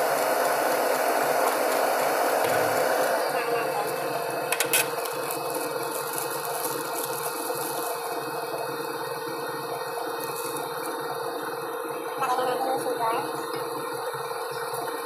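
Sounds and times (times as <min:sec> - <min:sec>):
stand mixer motor running: 0:00.0 - 0:15.0.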